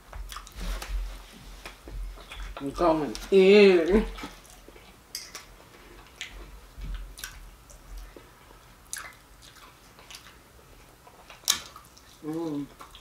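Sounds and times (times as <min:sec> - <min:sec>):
person chewing food: 0:00.2 - 0:03.2, 0:03.9 - 0:13.0.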